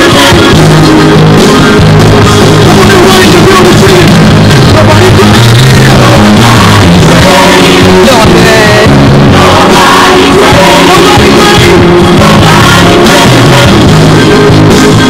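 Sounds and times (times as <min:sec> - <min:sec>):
music with singing: 0:00.0 - 0:15.0
steady bass line: 0:00.0 - 0:15.0.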